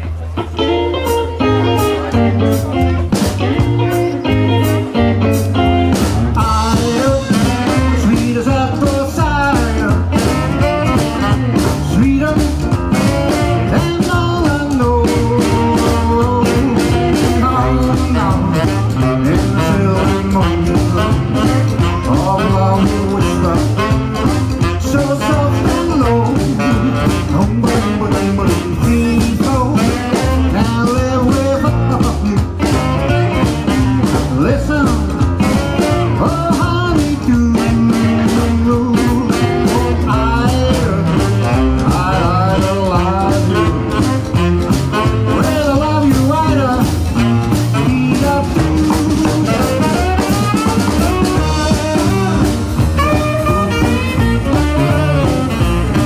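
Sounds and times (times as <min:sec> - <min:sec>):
drums: 0:00.0 - 0:56.0
electric guitar: 0:00.0 - 0:56.0
upright bass: 0:00.0 - 0:56.0.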